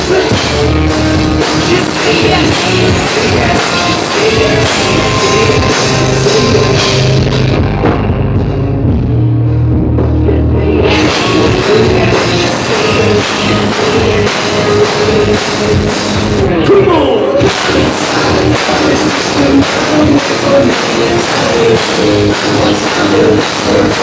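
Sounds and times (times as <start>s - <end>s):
bass guitar playing alone: 0.0s - 24.0s
rock band playing loud: 0.0s - 24.0s.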